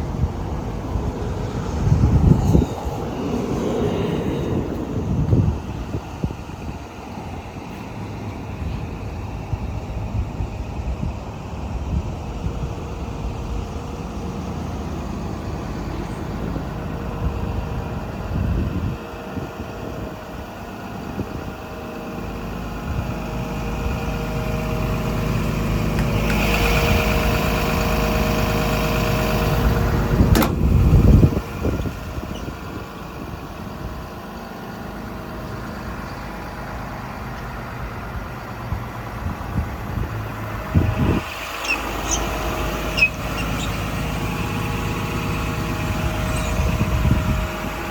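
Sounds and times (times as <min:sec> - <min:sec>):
hydraulic whine: 0:00.0 - 0:10.2, 0:11.5 - 0:47.9
excavator diesel engine running: 0:00.0 - 0:47.9.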